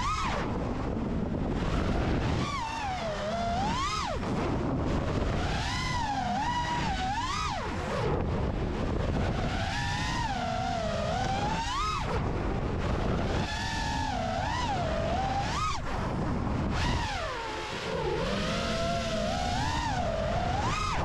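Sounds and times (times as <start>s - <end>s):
quadcopter motors whining: 0.0s - 21.0s
wind rushing on microphone: 0.0s - 21.0s.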